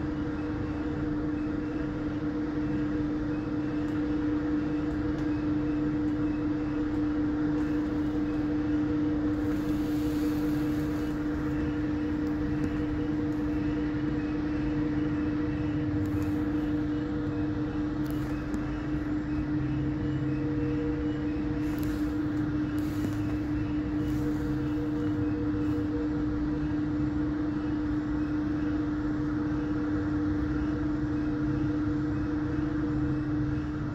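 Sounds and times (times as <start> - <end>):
aerial tramway machinery humming: 0.0 - 33.9.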